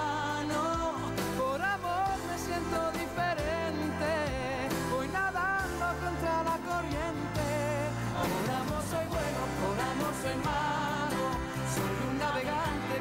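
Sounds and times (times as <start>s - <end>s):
person singing with vibrato: 0.0s - 13.0s
pop band backing: 0.0s - 13.0s.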